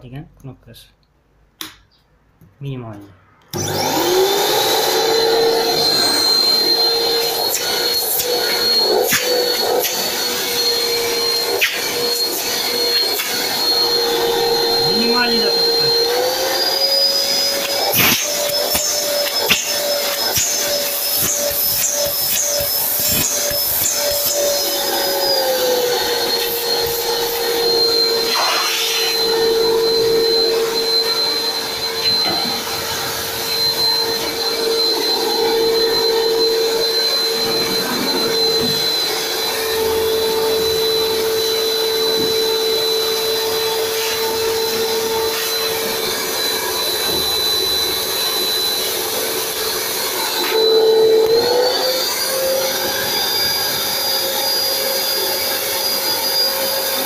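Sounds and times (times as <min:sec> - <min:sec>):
vacuum cleaner motor whining: 0:03.5 - 0:57.0.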